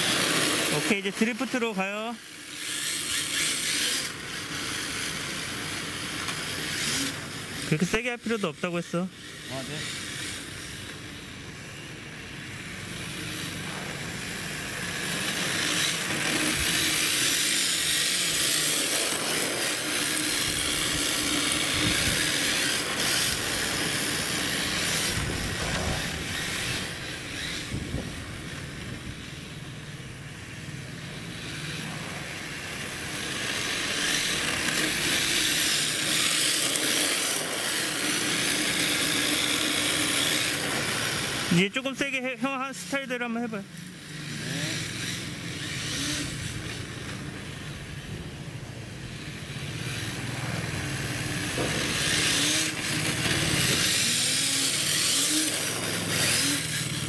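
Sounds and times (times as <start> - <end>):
rc car tyres hissing and scraping: 0.0 - 57.0.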